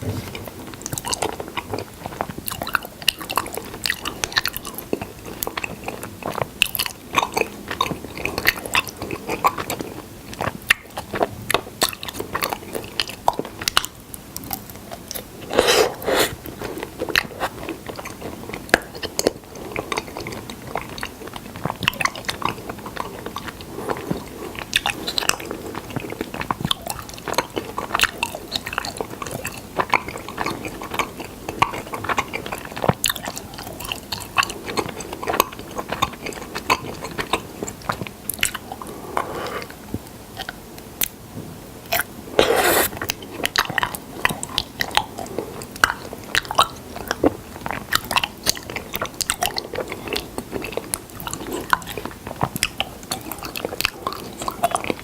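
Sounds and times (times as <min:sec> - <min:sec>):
biting and chewing honey: 0:00.3 - 0:41.2, 0:41.9 - 0:55.0.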